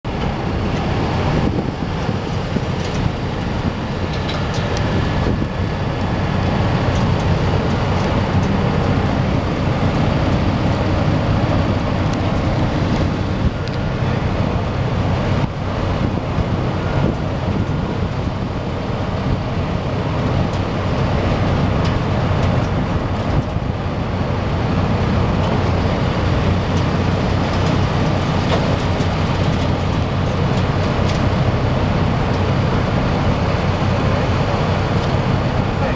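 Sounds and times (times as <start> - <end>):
low engine rumble: 0.0 - 35.9.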